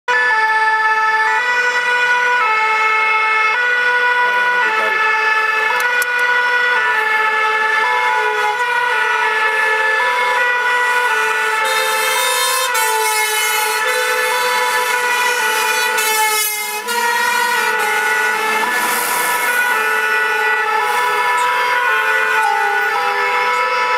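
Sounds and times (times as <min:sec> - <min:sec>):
two-tone fire engine siren: 0:00.1 - 0:23.9.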